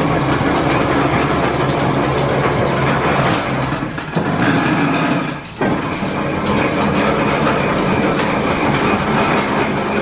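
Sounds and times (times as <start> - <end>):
metal planer clattering: 0.0 - 10.0.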